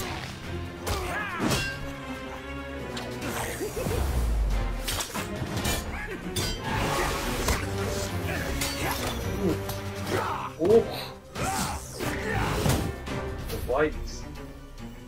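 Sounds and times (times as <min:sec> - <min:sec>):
action music: 0:00.0 - 0:15.0.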